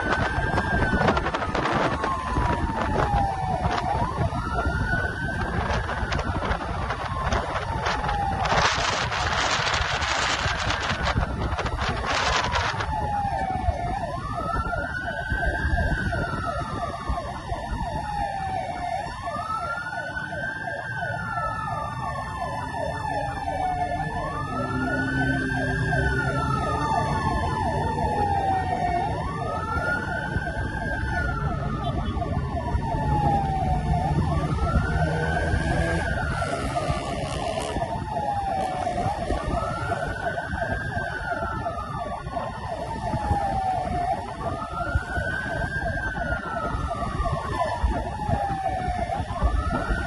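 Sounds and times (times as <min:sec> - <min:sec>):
fire truck siren wailing: 0:00.0 - 0:50.0
truck engine and road noise: 0:00.0 - 0:50.0.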